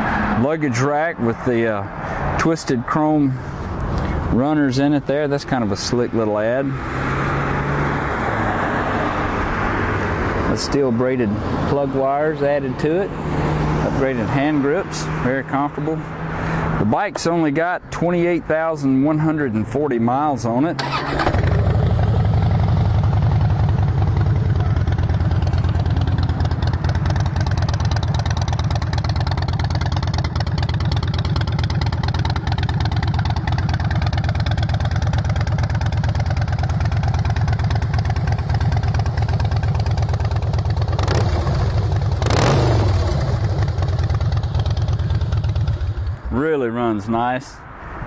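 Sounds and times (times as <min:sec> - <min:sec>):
motorcycle engine idling and revving: 0:00.0 - 0:46.4.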